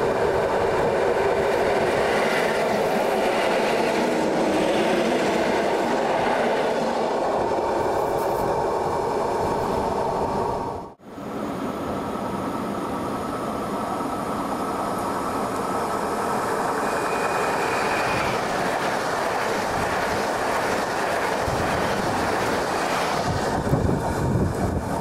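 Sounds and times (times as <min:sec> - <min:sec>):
train wheels rushing on rails: 0:00.0 - 0:25.0.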